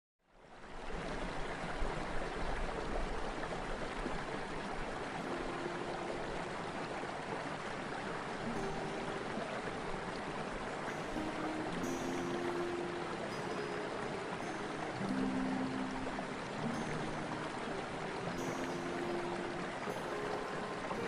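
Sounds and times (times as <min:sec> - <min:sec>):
water rushing over rocks: 0:00.7 - 0:21.0.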